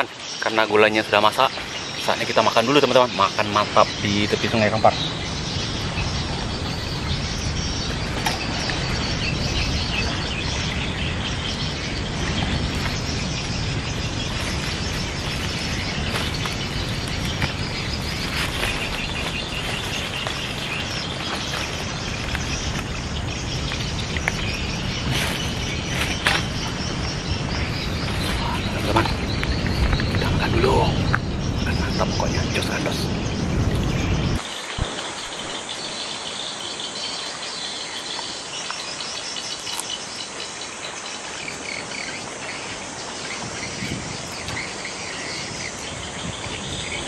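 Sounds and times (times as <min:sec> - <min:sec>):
birds chirping: 0:00.0 - 0:47.0
insects chirping: 0:00.0 - 0:47.0.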